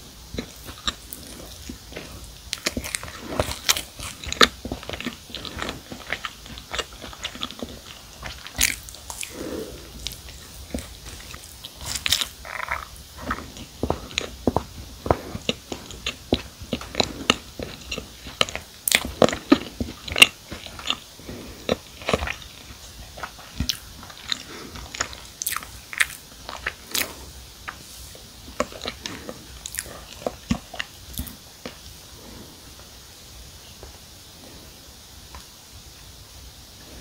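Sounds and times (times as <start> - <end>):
chewing cookie with wet mouth clicks: 0.3 - 27.9, 28.5 - 31.8.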